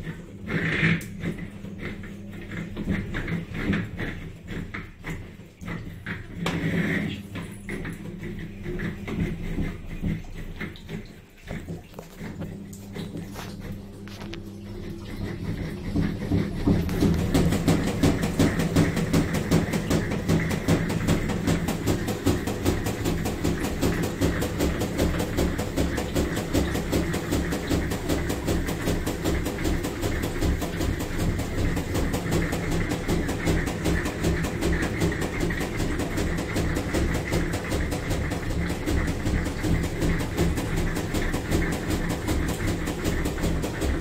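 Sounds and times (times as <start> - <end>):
washing machine rattling and humming: 0.0 - 44.0.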